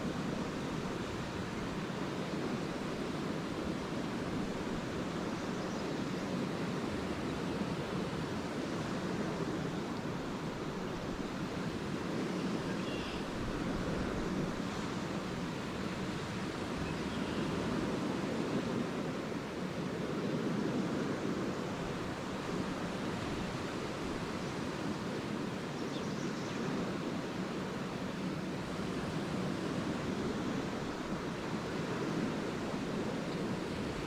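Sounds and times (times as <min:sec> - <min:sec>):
small waves washing onto beach: 0:00.0 - 0:34.0
wind: 0:00.0 - 0:34.0.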